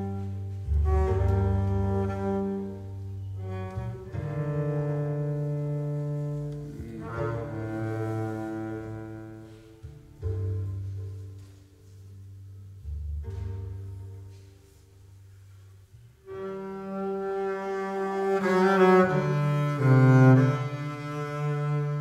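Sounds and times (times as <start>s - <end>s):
bowed double bass: 0.0s - 22.0s.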